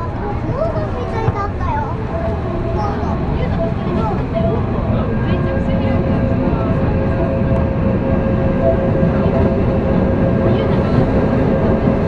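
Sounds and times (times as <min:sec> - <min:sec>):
steady motor whine: 0:00.0 - 0:12.0
subway train wheels rumbling: 0:00.0 - 0:12.0.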